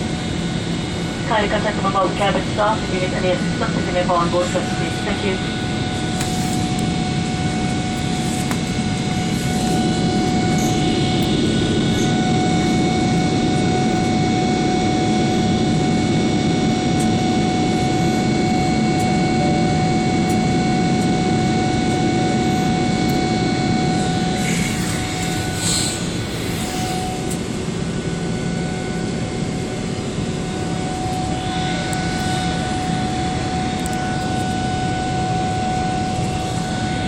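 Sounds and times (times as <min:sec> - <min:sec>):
jet engine and airflow rush: 0:00.0 - 0:20.8, 0:21.4 - 0:36.1
thin steady whine: 0:00.0 - 0:37.0.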